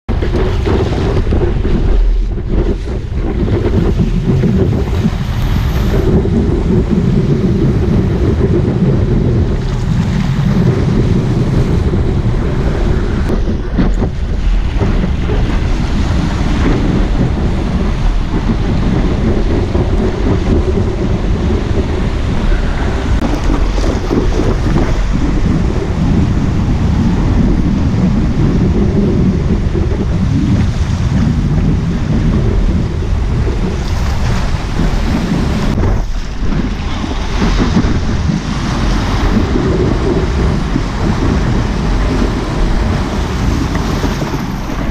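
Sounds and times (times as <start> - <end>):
wind buffeting microphone: 0.0 - 44.9
water rushing and splashing: 0.1 - 44.9.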